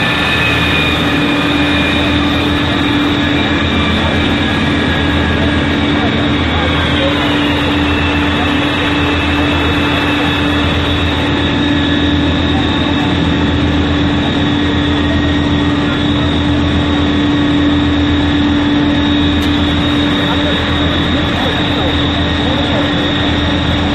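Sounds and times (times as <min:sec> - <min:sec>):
engines humming: 0:00.0 - 0:23.9.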